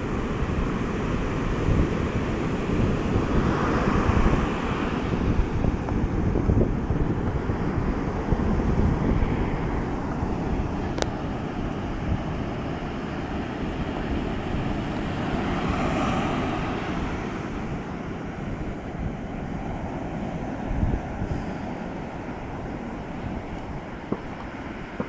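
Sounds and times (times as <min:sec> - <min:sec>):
surf breaking on beach: 0:00.0 - 0:25.0
wind buffeting microphone: 0:00.0 - 0:25.0.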